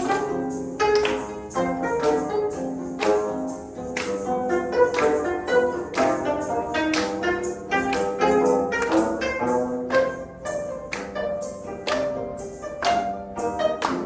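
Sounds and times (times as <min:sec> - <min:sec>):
bright percussion strikes: 0:00.0 - 0:14.0
instrumental ensemble playing: 0:00.0 - 0:14.0.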